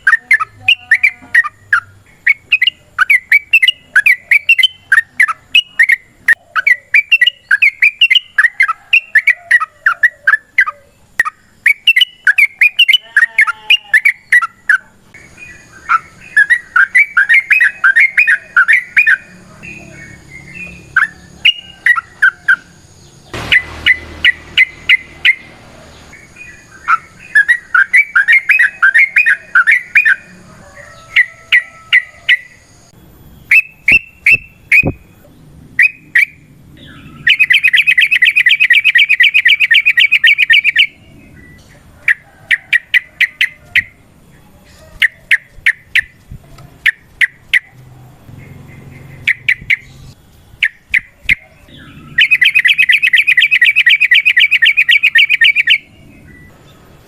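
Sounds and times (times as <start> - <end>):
bulbul chirps and rolled trills: 0.0 - 30.4, 31.0 - 44.0, 45.0 - 56.6.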